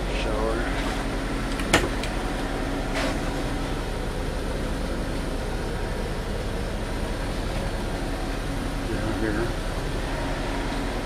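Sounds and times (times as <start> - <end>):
generator drone: 0.0 - 11.0.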